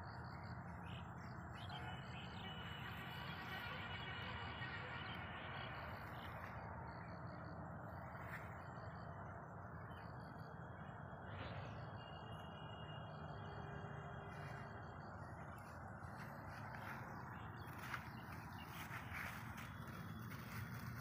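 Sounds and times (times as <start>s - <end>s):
steady background rush: 0.0s - 21.0s.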